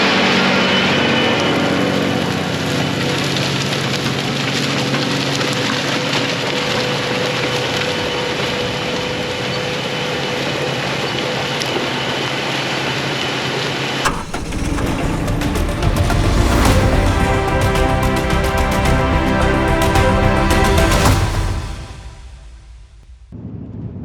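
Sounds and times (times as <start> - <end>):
engine running with whine: 0.0 - 12.2, 14.0 - 22.0.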